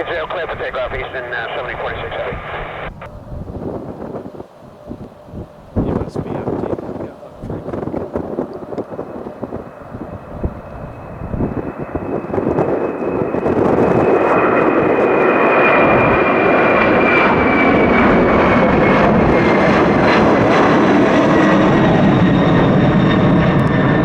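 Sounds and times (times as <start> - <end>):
high jet whine: 0.0 - 24.0
jet engine roar at takeoff: 0.0 - 24.0.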